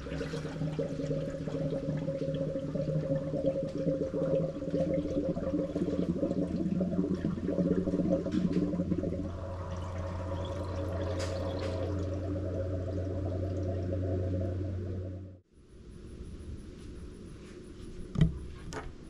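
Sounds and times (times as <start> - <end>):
coolant pouring and gurgling: 0.0 - 15.4.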